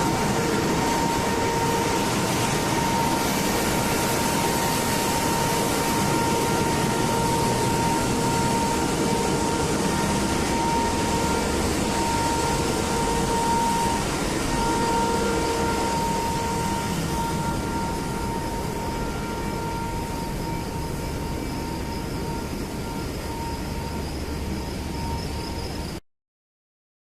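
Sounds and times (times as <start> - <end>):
machine whining: 0.0 - 26.0.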